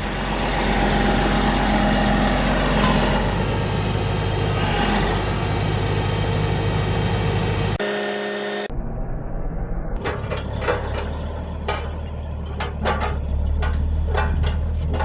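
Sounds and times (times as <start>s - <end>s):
diesel truck engine running: 0.0s - 7.8s, 10.0s - 15.0s.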